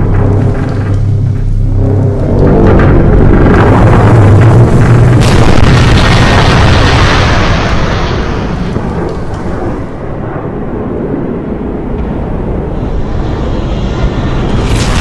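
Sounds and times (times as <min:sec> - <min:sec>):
deep explosion rumble: 0:00.0 - 0:15.0.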